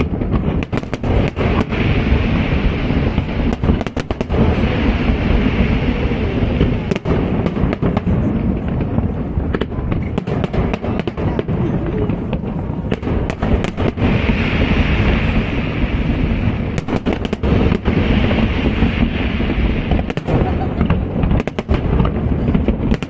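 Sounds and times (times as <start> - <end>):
fireworks bursts and cracks: 0.0 - 23.0
fireworks crackling hiss: 0.0 - 23.0.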